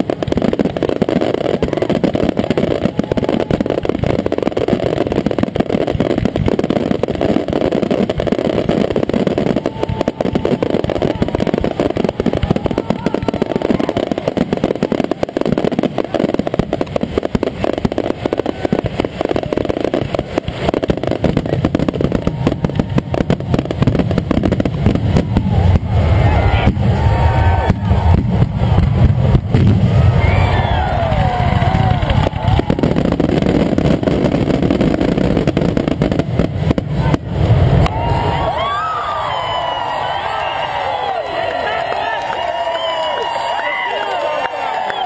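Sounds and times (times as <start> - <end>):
fireworks bangs and crackle: 0.0 - 45.0.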